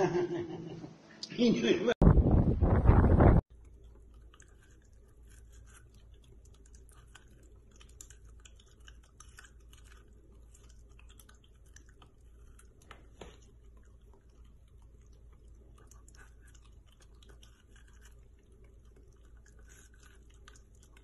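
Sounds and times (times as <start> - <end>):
dog crunching corn kernels: 3.5 - 21.0.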